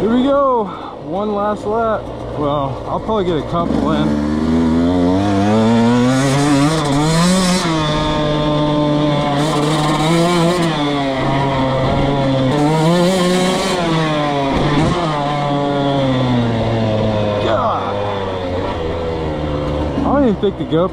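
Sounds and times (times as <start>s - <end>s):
dirt bike engine revving: 0.0s - 20.9s.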